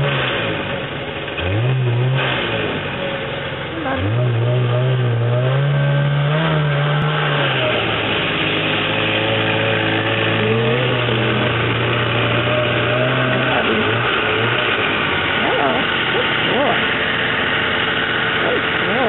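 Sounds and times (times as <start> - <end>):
snowmobile engine idling: 0.0 - 19.0.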